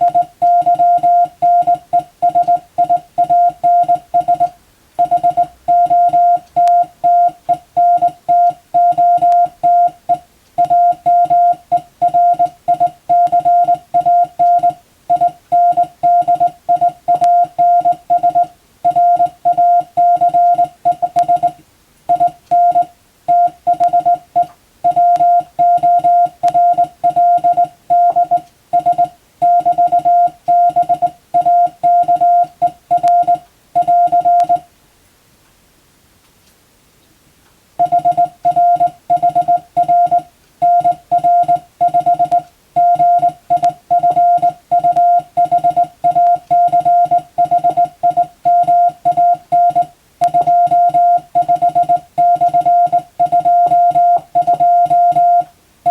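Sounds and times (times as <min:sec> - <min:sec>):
morse code tone: 0:00.0 - 0:34.7, 0:37.8 - 0:55.9.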